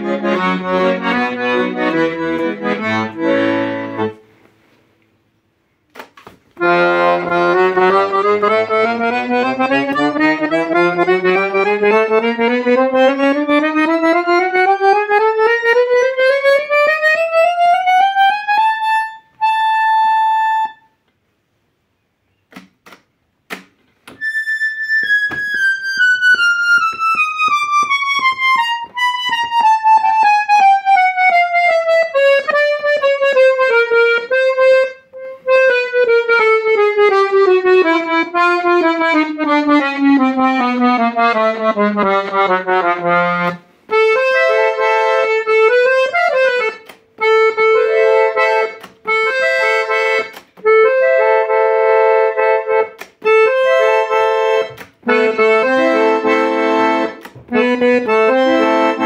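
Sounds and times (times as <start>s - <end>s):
accordion playing scale and chords: 0.0s - 4.8s, 6.0s - 21.4s, 23.5s - 59.0s.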